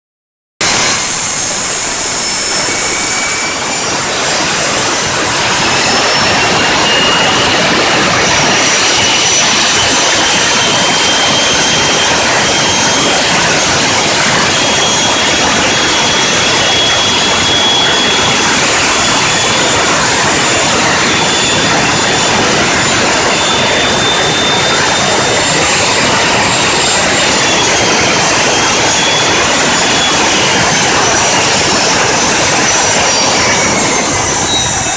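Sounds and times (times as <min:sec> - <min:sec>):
jet engine roar with turbine whine: 0:00.6 - 0:34.9.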